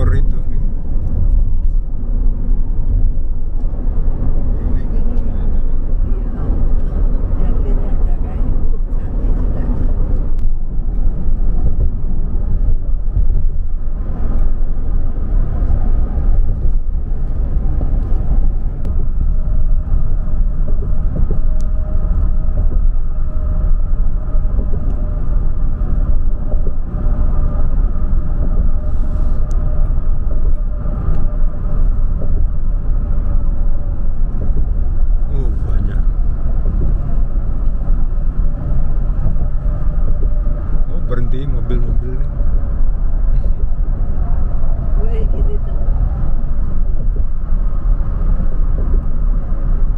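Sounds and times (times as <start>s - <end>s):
moving car rumble: 0.0s - 49.9s.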